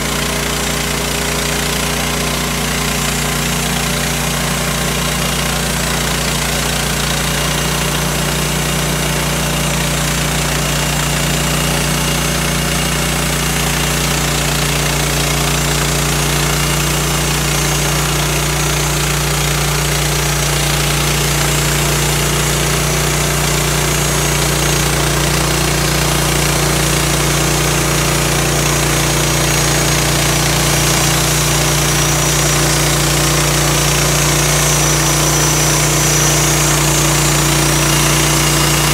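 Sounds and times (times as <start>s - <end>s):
gas engine running: 0.0s - 38.9s
saw blade cutting log: 0.0s - 38.9s.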